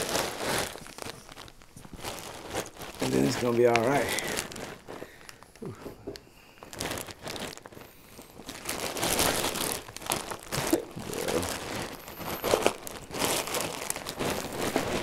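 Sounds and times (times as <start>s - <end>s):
cloth rustling and crumpling: 0.0s - 15.0s.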